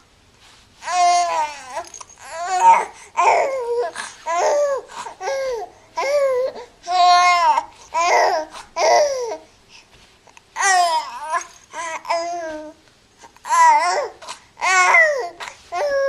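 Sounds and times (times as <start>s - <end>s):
baby babbling and cooing: 0.8s - 9.5s, 10.6s - 16.0s.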